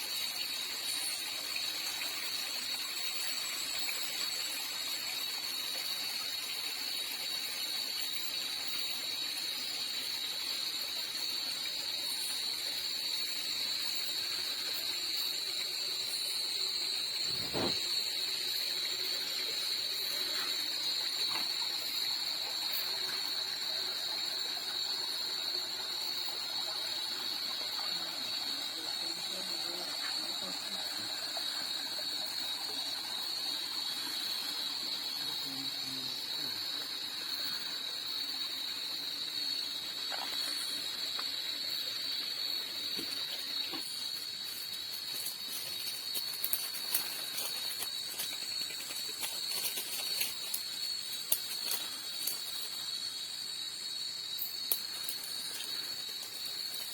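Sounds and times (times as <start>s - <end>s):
night insect chorus: 0.0s - 56.9s.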